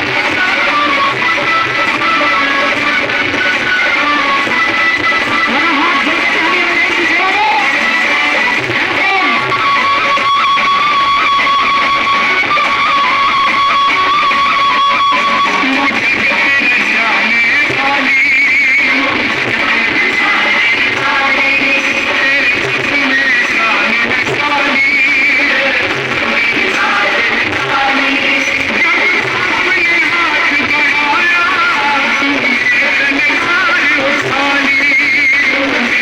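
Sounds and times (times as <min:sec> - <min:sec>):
guitar music: 0:00.0 - 0:36.0.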